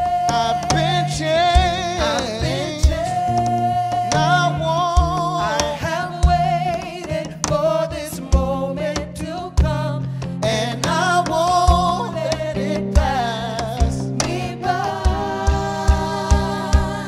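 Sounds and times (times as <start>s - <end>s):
acoustic guitar: 0.0s - 17.0s
cajon thumping beat: 0.0s - 17.0s
person singing with vibrato: 0.0s - 17.0s.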